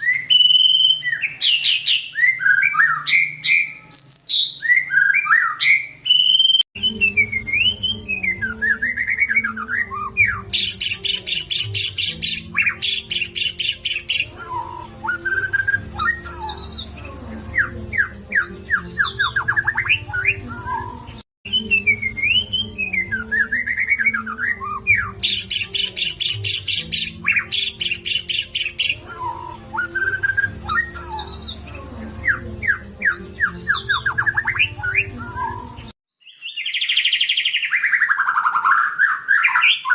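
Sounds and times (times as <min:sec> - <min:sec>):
bird singing whistled phrases: 0:00.0 - 0:31.6, 0:32.2 - 0:39.9.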